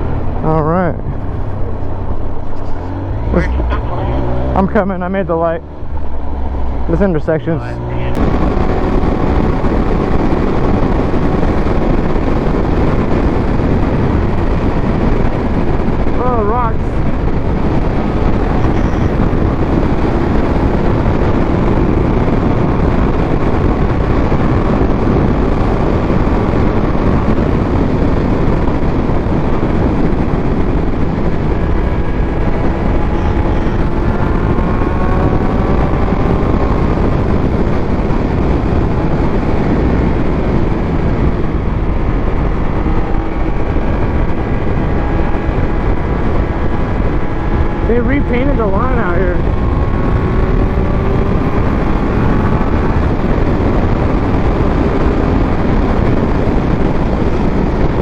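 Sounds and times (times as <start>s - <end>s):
motorcycle engine accelerating: 0.0s - 58.0s
wind rush on microphone: 0.0s - 58.0s.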